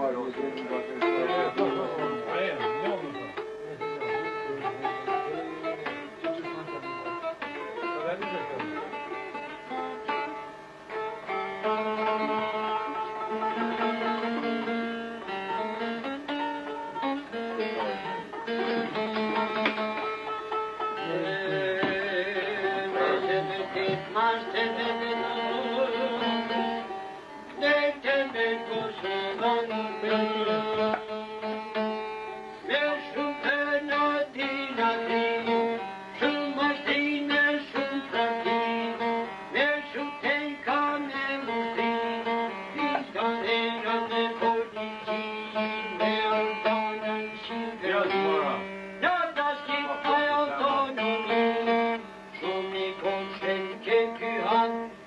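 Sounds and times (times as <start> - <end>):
plucked string folk melody: 0.0 - 55.0.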